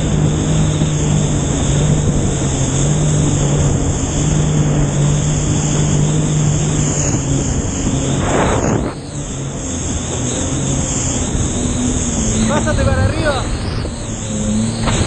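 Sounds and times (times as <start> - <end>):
jet ski engine running: 0.0 - 15.0
rush of noise: 0.0 - 15.0
wind and water hiss: 0.0 - 15.0.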